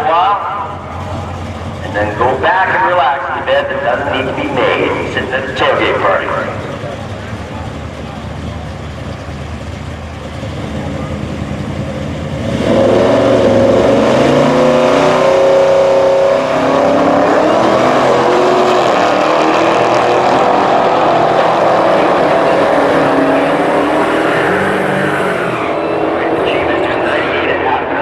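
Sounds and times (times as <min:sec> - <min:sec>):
drag racing car engine: 0:00.0 - 0:28.0.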